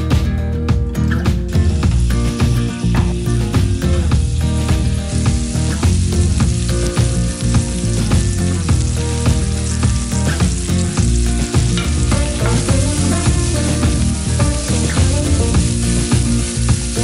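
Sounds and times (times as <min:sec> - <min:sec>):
food sizzling in oil: 0:01.1 - 0:17.0.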